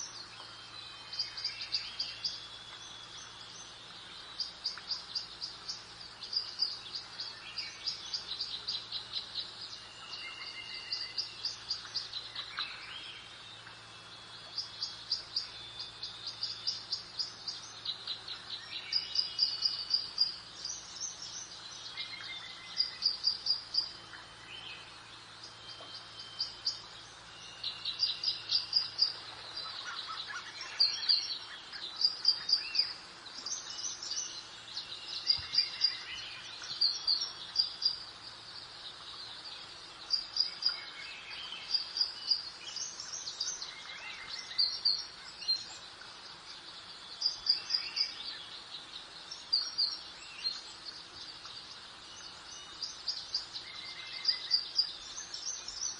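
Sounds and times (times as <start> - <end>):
small songbirds chirping: 0.0 - 55.9
soft steady background hiss: 0.0 - 55.9.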